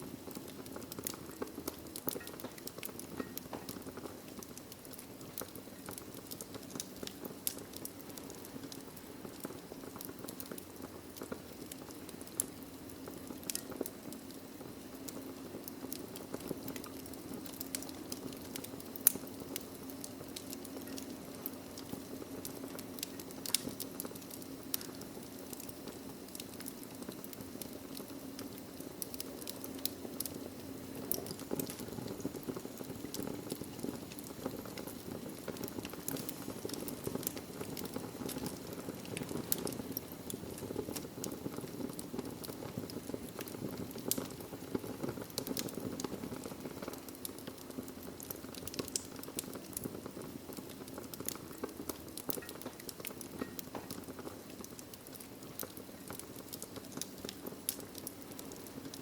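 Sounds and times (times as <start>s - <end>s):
logs crackling and popping: 0.0s - 59.0s
wood fire burning: 0.0s - 59.0s.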